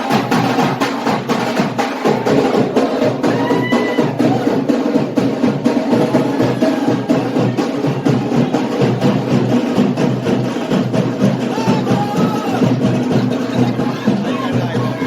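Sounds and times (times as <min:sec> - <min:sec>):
fast percussion music: 0:00.0 - 0:15.0.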